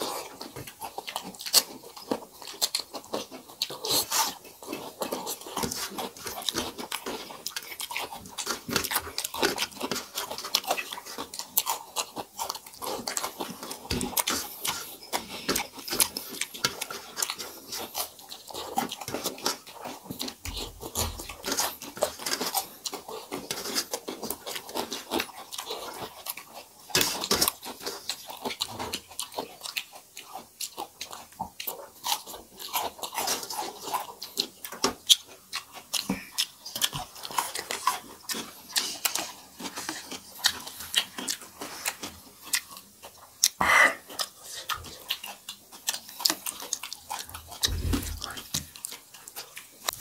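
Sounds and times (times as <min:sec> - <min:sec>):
crunching raw salad: 0:00.0 - 0:50.0
fingers working rice off plates: 0:00.0 - 0:50.0
wet chewing and smacking: 0:00.0 - 0:50.0.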